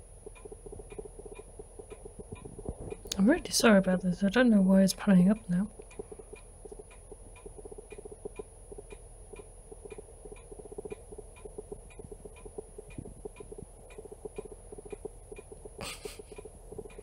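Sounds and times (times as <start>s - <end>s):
light regular ticking: 0.0s - 17.0s.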